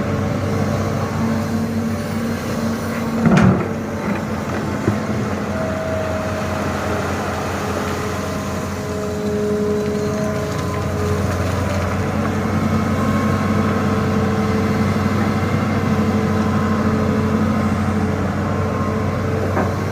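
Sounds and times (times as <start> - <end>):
excavator diesel engine: 0.0 - 19.9.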